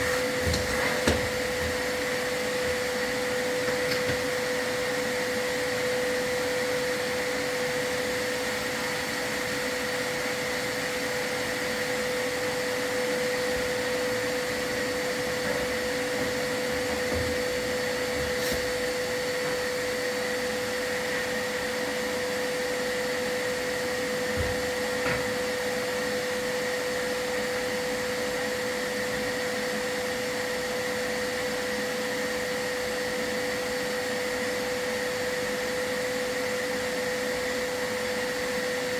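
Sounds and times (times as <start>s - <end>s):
vacuum running: 0.0s - 38.9s.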